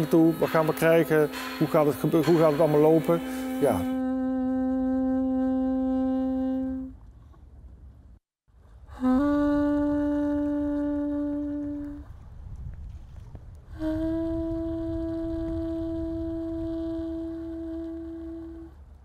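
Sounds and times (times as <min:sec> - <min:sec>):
saxophone long notes: 0:00.0 - 0:07.0, 0:08.9 - 0:12.1, 0:13.7 - 0:18.8.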